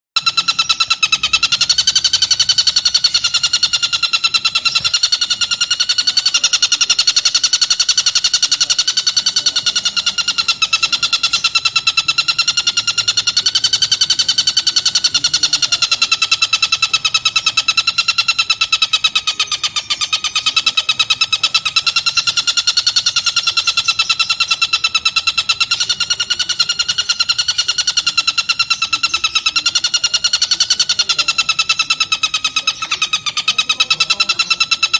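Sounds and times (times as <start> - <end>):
kingfisher calling harsh notes: 0.2 - 34.9.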